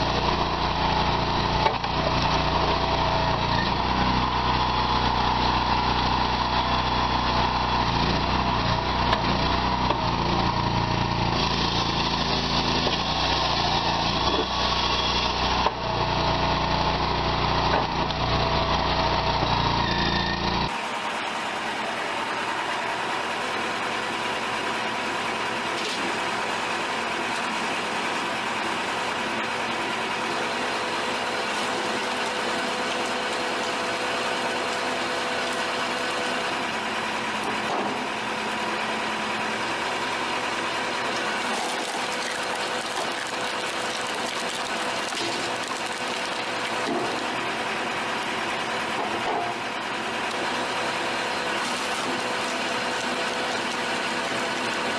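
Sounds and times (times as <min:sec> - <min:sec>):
machine running steadily: 0:00.0 - 0:54.9.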